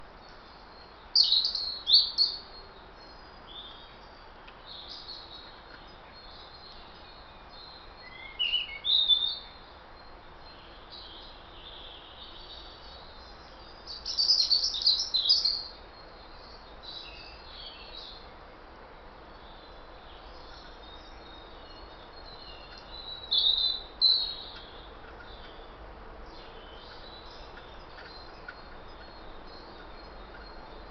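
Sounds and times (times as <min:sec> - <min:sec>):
faint steady hiss: 0:00.0 - 0:30.9
wild birds chirping: 0:00.0 - 0:30.9.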